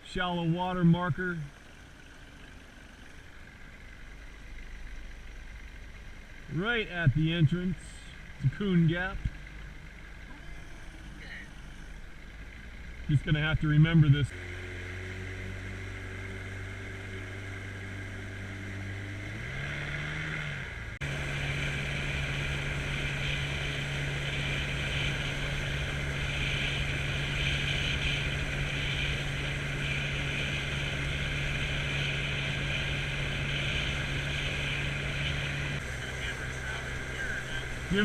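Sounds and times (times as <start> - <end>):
boat motor running: 0.0 - 38.0.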